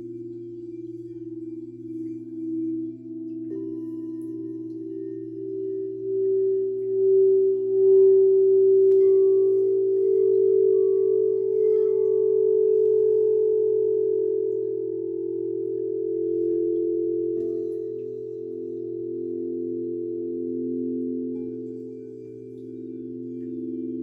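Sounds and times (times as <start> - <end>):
singing bowl tone: 0.0 - 24.0.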